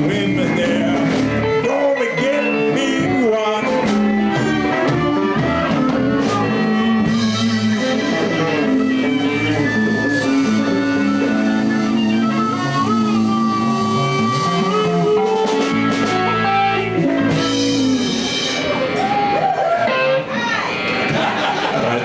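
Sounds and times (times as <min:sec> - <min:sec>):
lead guitar bent notes: 0:00.0 - 0:21.4
live blues band playing: 0:00.0 - 0:22.0.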